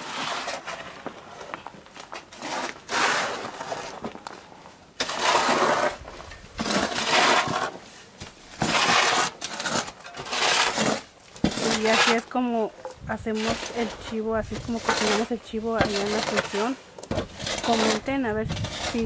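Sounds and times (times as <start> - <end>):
shovels scraping loose earth: 0.0 - 19.0.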